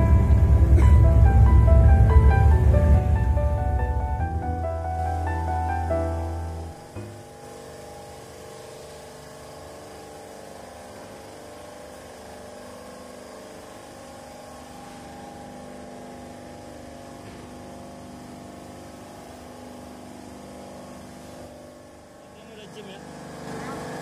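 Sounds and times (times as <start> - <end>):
ice machine compressor humming: 0.0 - 24.0.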